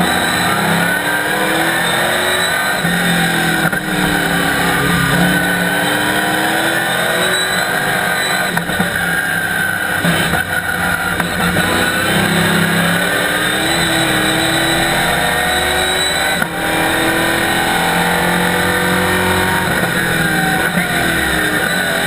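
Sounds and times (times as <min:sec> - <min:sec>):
race car engine accelerating: 0:00.0 - 0:22.0.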